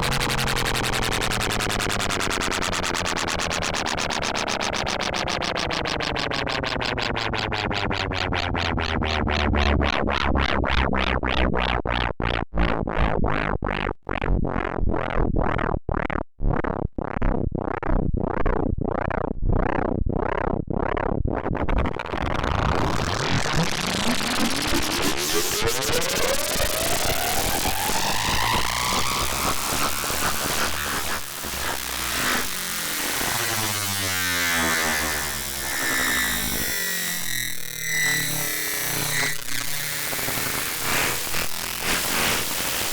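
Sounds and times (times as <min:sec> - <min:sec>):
synthesized electronic pulsing: 0:00.0 - 0:12.4, 0:18.9 - 0:42.9
harsh noise with pitch sweeps: 0:00.0 - 0:42.9.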